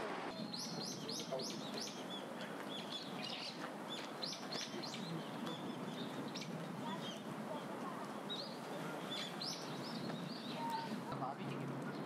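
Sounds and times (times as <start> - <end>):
low background noise: 0.0 - 12.0
small birds chirping: 0.3 - 12.0.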